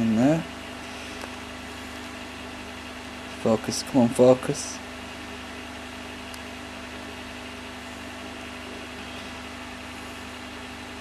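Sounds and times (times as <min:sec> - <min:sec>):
low even hum: 0:00.0 - 0:11.0.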